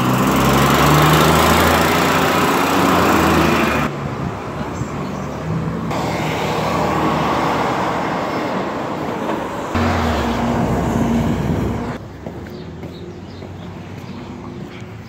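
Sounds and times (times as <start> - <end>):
diesel truck passing by: 0.0 - 15.0
tyres rushing on road: 0.0 - 15.0.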